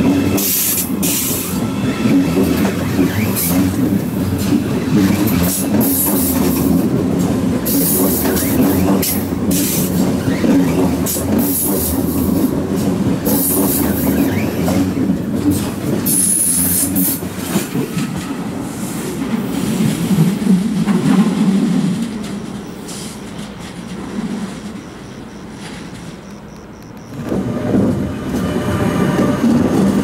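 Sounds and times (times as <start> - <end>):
train wheel rumble: 0.0 - 30.0.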